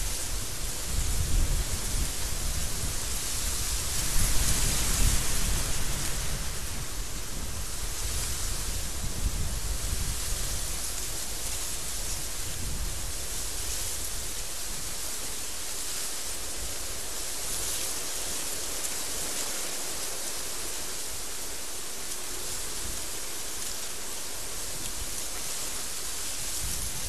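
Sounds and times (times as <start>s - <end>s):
wind hissing: 0.0s - 27.0s.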